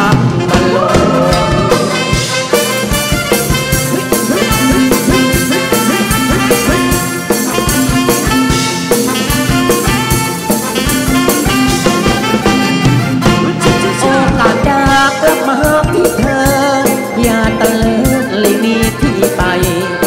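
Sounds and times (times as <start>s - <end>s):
brass melody: 0.0s - 20.0s
quick drum beat: 0.0s - 20.0s.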